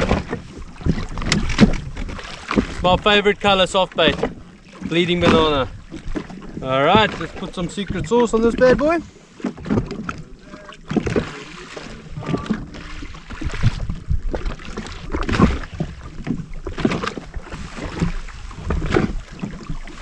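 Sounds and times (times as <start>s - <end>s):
wind noise on microphone: 0.0s - 9.0s, 12.2s - 20.0s
waves slapping against a hull: 0.0s - 20.0s.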